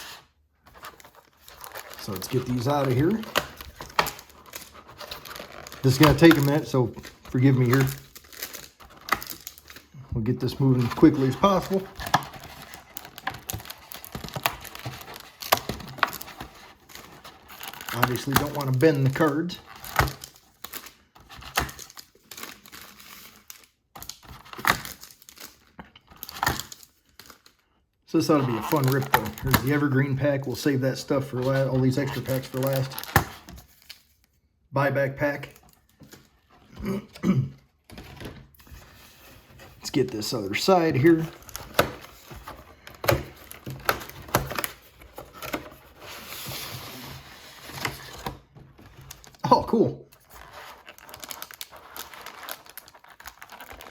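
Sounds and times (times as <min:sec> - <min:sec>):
wrappers crinkling against cardboard: 0:00.0 - 0:34.4, 0:37.9 - 0:53.9.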